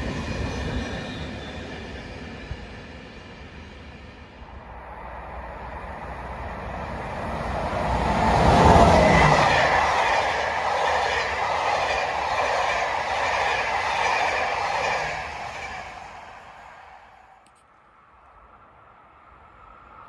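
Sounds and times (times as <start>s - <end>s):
train wheels rushing on rail: 0.0s - 17.4s.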